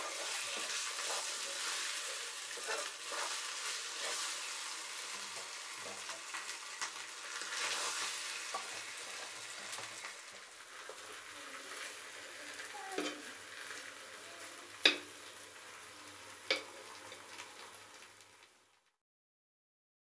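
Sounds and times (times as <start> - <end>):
rice sizzling in hot oil: 0.0 - 19.0.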